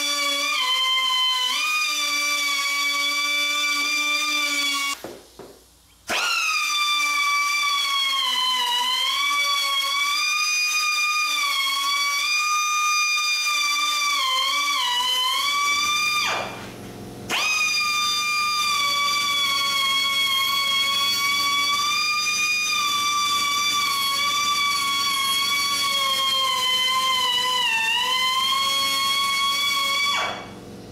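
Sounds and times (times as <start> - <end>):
rotary tool whining: 6.1 - 30.9.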